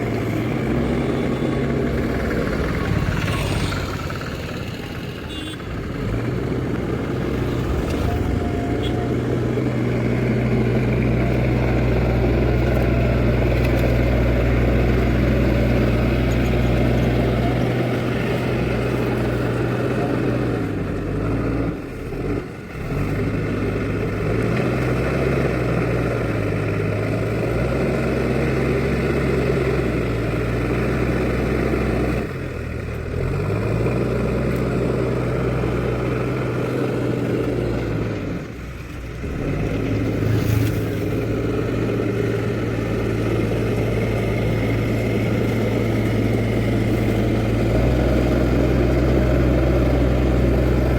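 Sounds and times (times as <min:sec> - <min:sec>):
backhoe diesel engine running: 0:00.0 - 0:50.9.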